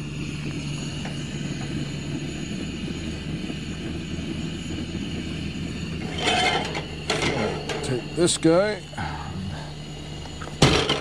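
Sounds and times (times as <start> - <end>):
camp stove burner hissing: 0.0 - 11.0.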